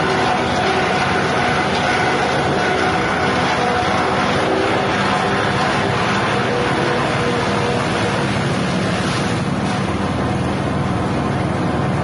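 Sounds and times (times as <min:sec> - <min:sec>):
chopper machine running: 0:00.0 - 0:12.0.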